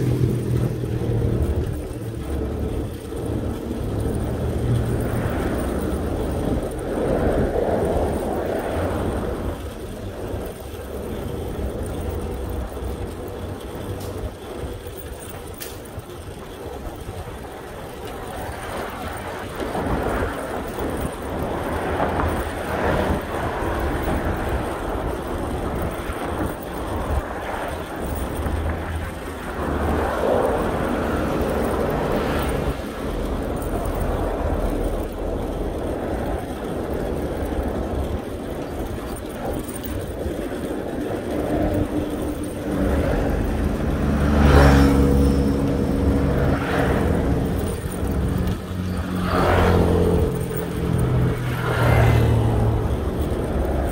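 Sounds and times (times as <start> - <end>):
cars passing on road: 0.0 - 53.9
vehicle engine running nearby: 0.0 - 53.9.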